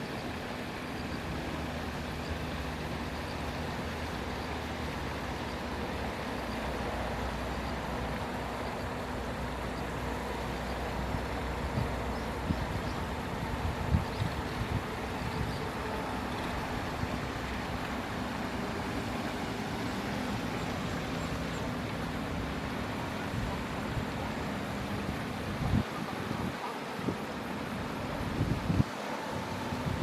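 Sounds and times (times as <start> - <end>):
distant traffic rumble: 0.0 - 30.0.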